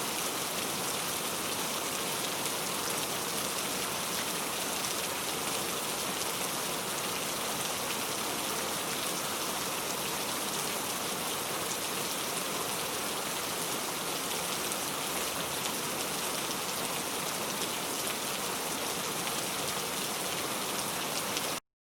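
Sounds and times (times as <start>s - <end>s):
heavy rain falling: 0.0s - 21.6s.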